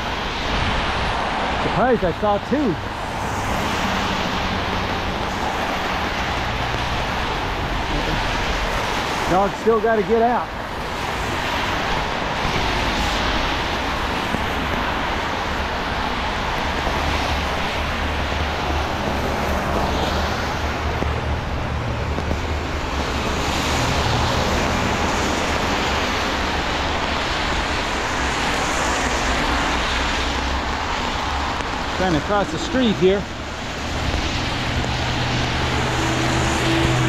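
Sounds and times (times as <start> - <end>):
traffic on wet street: 0.0 - 37.0
rain on umbrella: 2.8 - 37.0.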